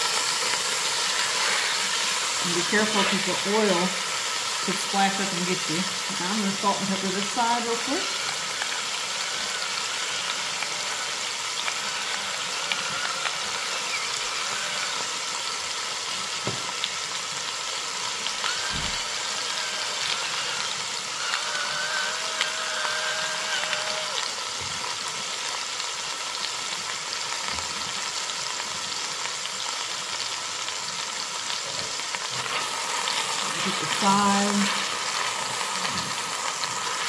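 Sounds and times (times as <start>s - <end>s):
meat sizzling in hot oil: 0.0s - 37.0s.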